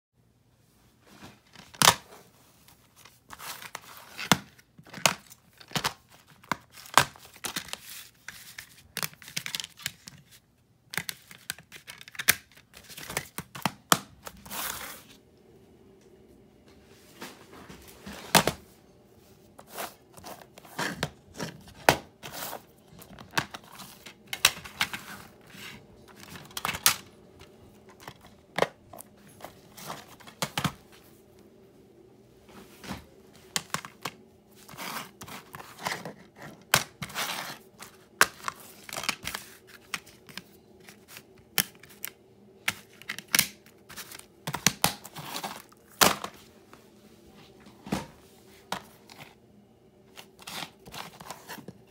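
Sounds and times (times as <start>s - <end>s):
faint steady hum: 0.2s - 51.9s.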